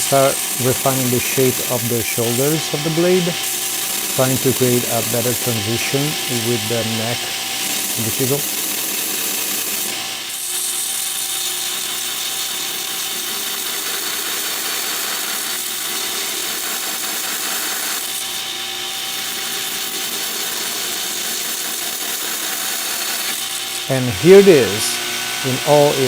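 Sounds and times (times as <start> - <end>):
power tool grinding steel: 0.0 - 26.0
power tool motor tone: 0.0 - 26.0.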